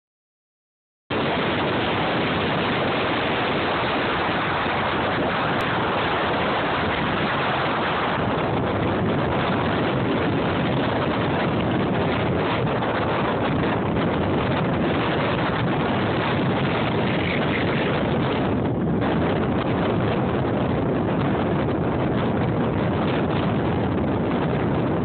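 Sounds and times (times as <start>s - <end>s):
wind buffeting microphone: 1.1s - 25.0s.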